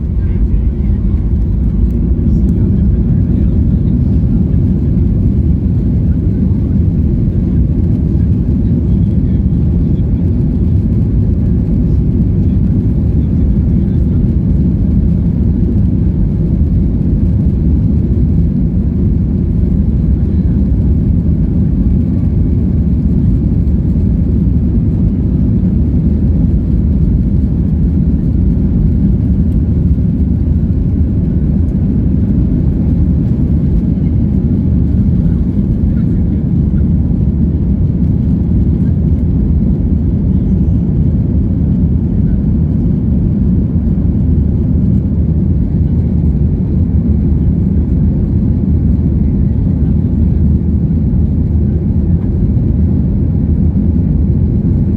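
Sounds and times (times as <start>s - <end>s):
jet cabin engine rumble: 0.0s - 54.9s.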